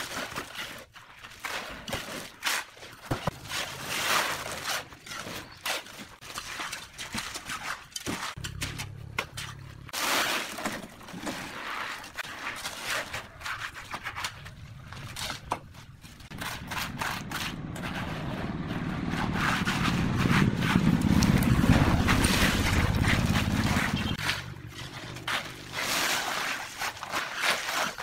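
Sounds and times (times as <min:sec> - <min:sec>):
trowel scraping wet concrete: 0:00.0 - 0:28.0
wheelbarrow rolling: 0:00.0 - 0:28.0.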